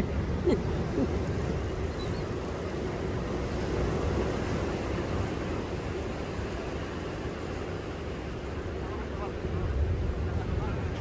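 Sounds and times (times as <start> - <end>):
sea waves: 0.0 - 11.0.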